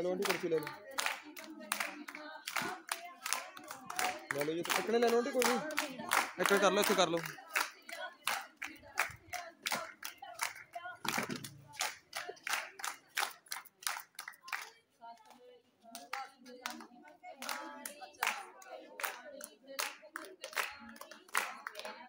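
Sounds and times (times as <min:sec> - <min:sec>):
women clapping in rhythm: 0:00.0 - 0:22.0
women singing: 0:00.0 - 0:22.0.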